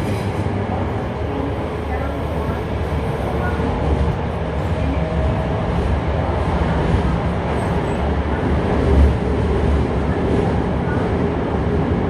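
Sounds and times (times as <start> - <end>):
subway car wheels rumbling on rail: 0.0 - 12.0.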